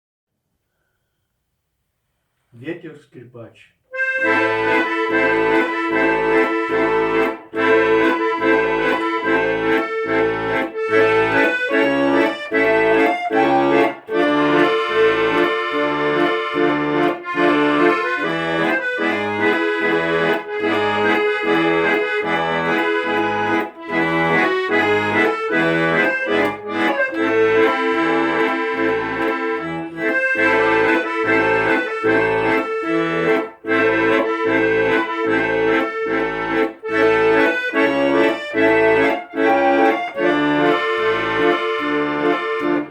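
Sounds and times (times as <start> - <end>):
accordion melody: 3.9 - 42.9.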